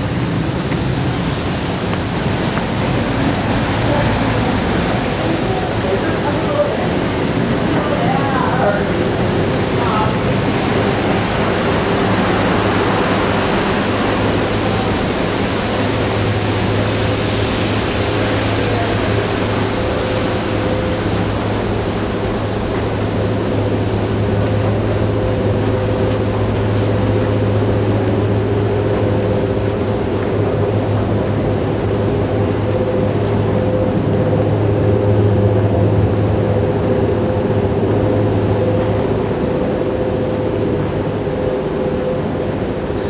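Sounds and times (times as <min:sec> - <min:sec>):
machinery low hum: 0:00.0 - 0:43.0.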